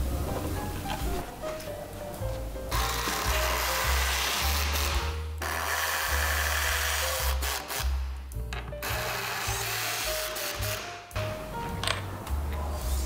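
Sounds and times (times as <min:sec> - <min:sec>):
background music with bass: 0:00.0 - 0:13.0.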